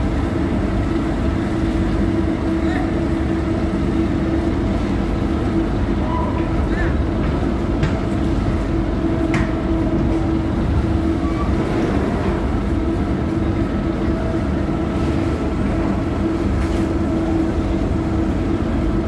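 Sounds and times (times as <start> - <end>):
heavy engine droning: 0.0 - 19.0.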